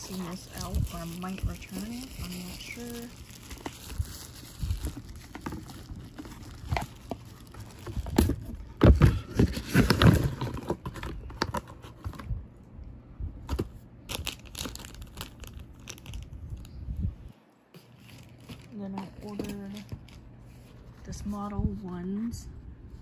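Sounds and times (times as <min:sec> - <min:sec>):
packaging rustling and crinkling: 0:00.0 - 0:12.3, 0:13.5 - 0:16.7, 0:17.7 - 0:21.0.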